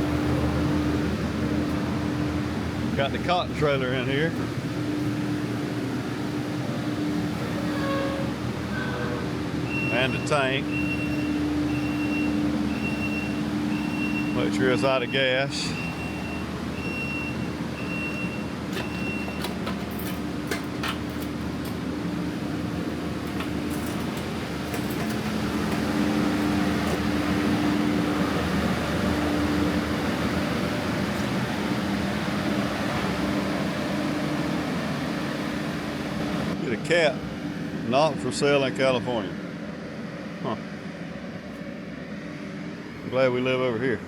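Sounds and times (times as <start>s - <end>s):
vehicle engine running: 0.0s - 36.6s.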